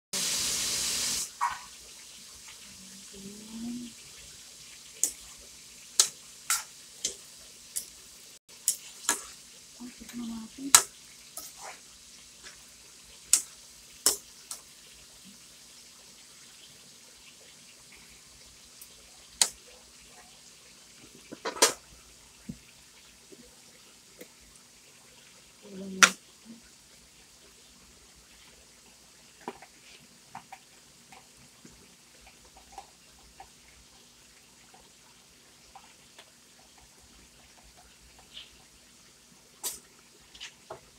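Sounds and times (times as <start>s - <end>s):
stir-fry hiss: 0.2s - 40.9s.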